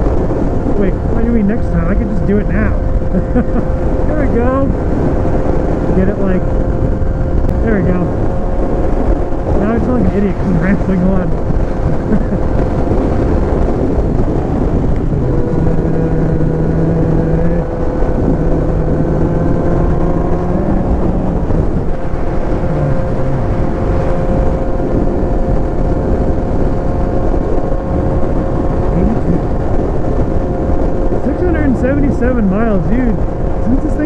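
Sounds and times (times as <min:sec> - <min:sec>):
motorcycle engine running: 0:00.0 - 0:34.0
wind rush over microphone: 0:00.0 - 0:34.0.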